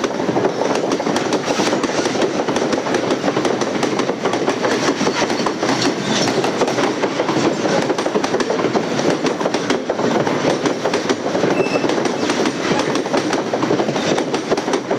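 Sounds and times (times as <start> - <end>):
train wheels clattering on rails: 0.0 - 14.9.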